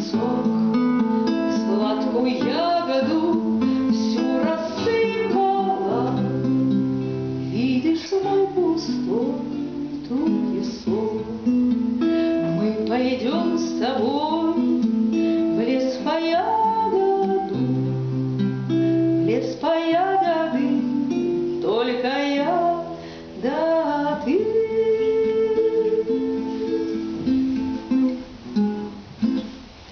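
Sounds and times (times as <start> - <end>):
woman singing: 0.0 - 27.8
plucked classical guitar: 0.0 - 29.9.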